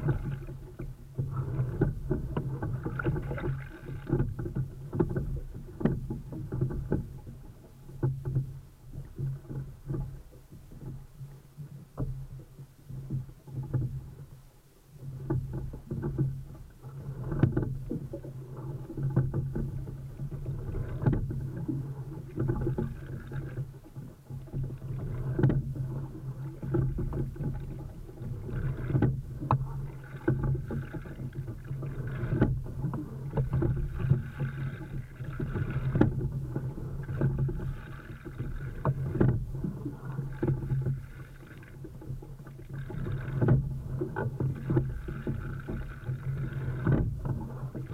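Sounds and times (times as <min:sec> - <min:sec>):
water rushing along hull: 0:00.0 - 0:47.9.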